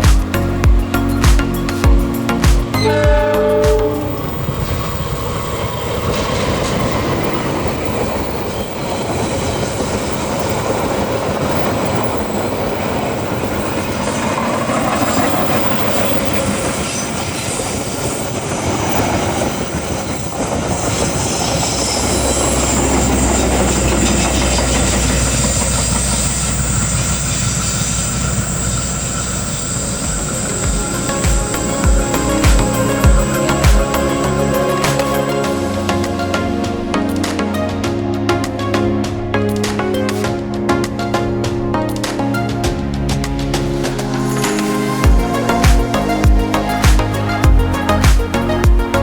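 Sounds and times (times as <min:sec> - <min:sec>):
high steady squeal: 0:00.0 - 0:49.0.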